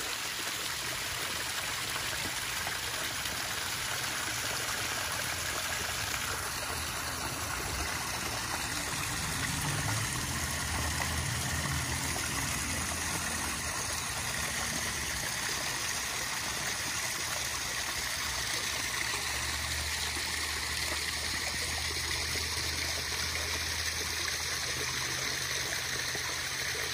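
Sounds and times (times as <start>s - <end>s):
water splashing into pond: 0.0s - 26.9s.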